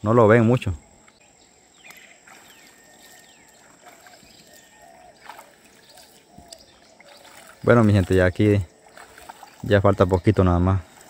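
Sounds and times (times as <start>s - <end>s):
river water sloshing and dripping: 1.1s - 11.0s.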